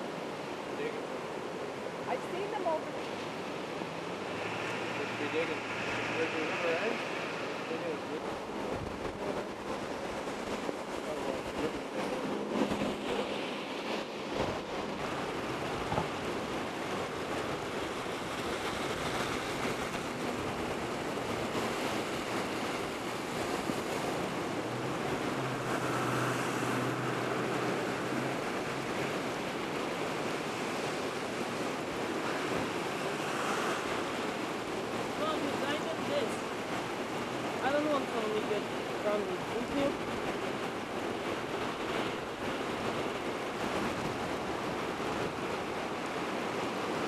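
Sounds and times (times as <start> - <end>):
floodwater rushing: 0.0 - 47.0.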